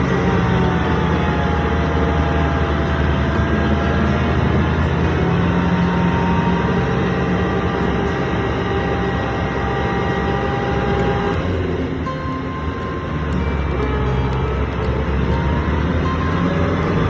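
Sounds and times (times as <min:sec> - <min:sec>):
harvester engine rumbling: 0:00.0 - 0:17.0.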